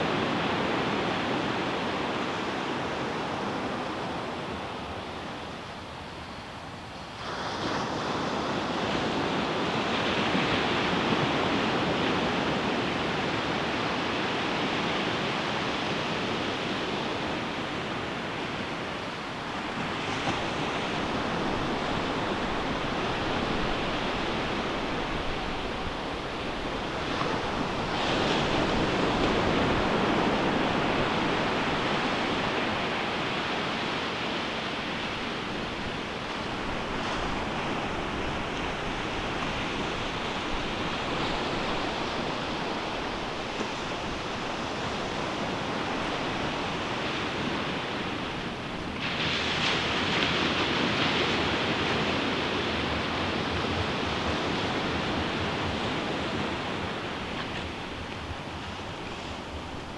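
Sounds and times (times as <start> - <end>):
ocean waves breaking on beach: 7.1 - 59.9.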